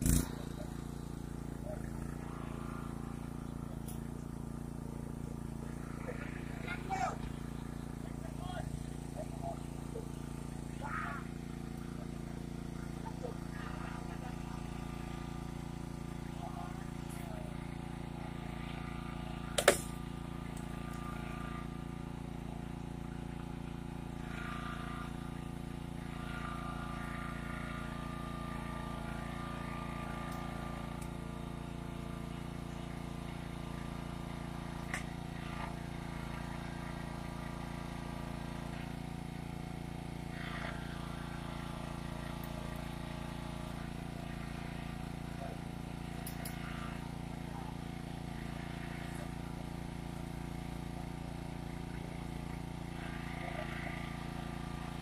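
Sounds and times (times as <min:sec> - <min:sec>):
small engine droning: 0:00.0 - 0:55.0.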